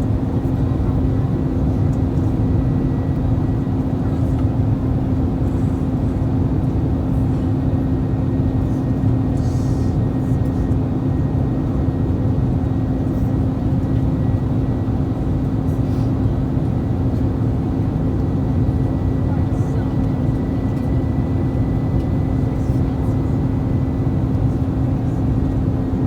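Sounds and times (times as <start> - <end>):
airliner cabin engine rumble: 0.0 - 26.0
constant hum: 0.0 - 26.0.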